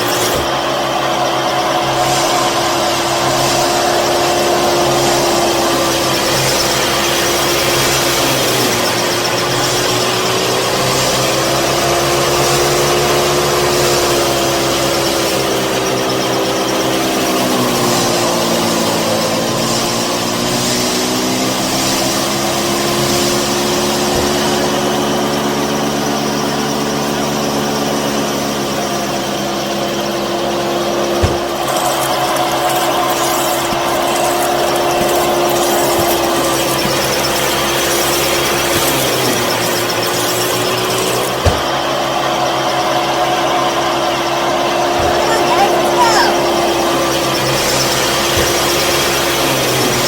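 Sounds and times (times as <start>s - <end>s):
small electric motor whining: 0.0s - 50.0s.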